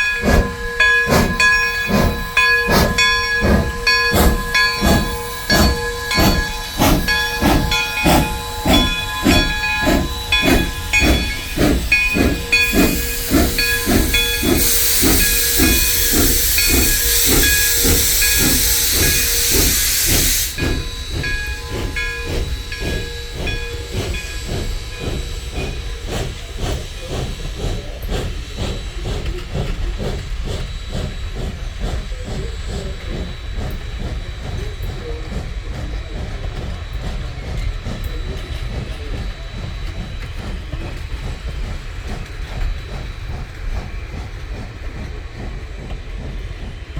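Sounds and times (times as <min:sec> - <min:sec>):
escaping steam hissing: 0:00.0 - 0:46.9
steam locomotive exhaust beats: 0:00.0 - 0:46.9
train rolling rumble: 0:00.0 - 0:46.9.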